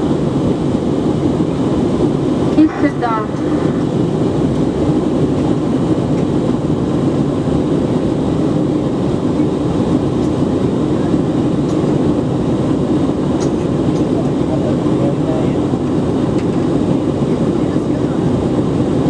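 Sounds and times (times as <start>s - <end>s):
jet engine cabin drone: 0.0s - 19.0s.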